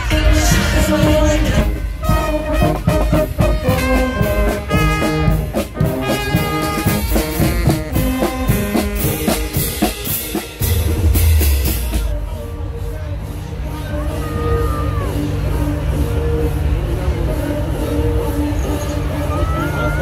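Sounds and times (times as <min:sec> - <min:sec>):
drums and crash cymbals: 0:00.0 - 0:20.0
marching band playing: 0:00.0 - 0:20.0.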